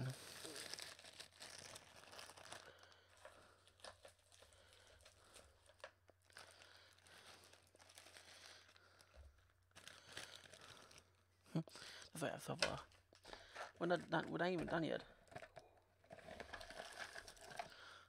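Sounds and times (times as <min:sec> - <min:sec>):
candy packaging crinkling: 0:00.0 - 0:18.0.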